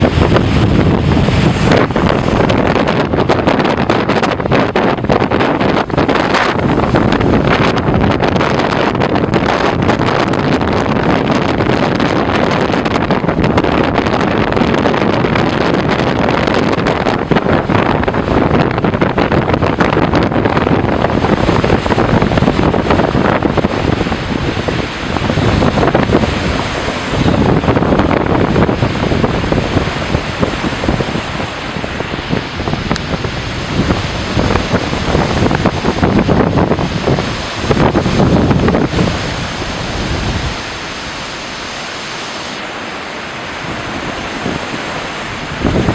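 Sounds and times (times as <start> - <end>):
surf breaking on rocks: 0.0 - 45.9
wind buffeting microphone: 0.0 - 45.9.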